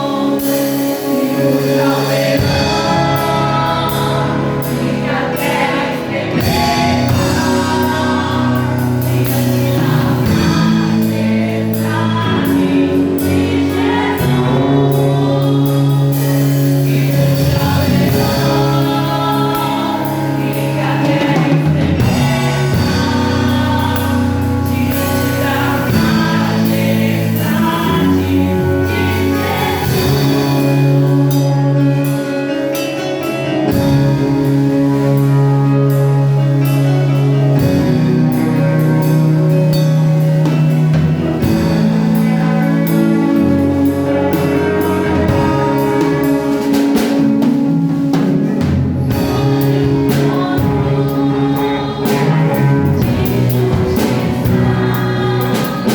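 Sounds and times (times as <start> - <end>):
group singing praise song: 0.0 - 31.9, 40.9 - 55.9
instrumental accompaniment: 0.0 - 55.9.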